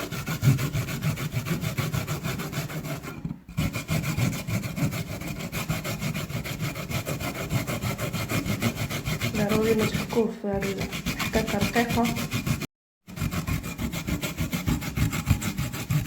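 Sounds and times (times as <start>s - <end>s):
turnip scraping on grater: 0.0s - 16.0s.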